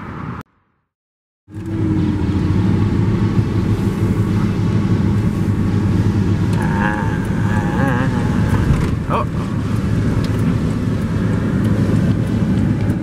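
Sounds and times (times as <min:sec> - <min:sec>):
truck engine and tyre noise: 0:00.0 - 0:00.9, 0:01.5 - 0:13.0.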